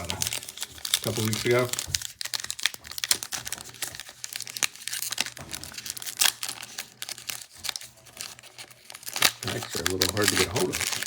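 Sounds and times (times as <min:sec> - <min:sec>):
card wrappers crinkling and tearing: 0:00.0 - 0:11.0.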